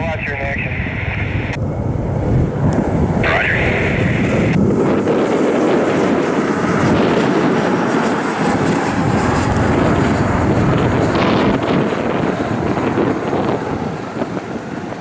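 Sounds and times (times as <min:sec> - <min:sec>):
jet engine rushing: 0:00.0 - 0:15.0
wind buffeting microphone: 0:00.0 - 0:15.0.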